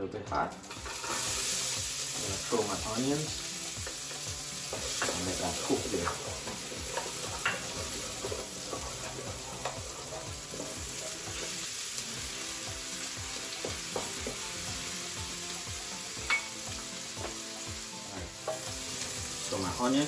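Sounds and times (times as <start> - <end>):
onions sizzling in a pan: 0.5 - 20.0.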